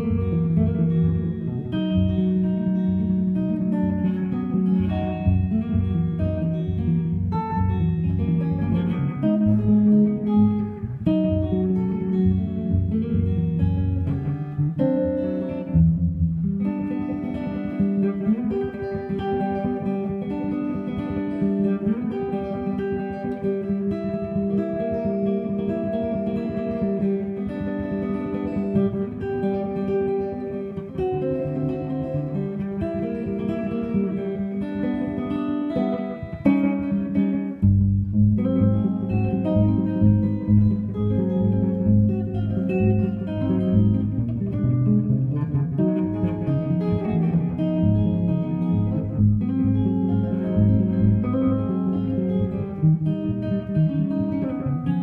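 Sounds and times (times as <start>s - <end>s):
fingerstyle electric guitar: 0.0s - 55.0s.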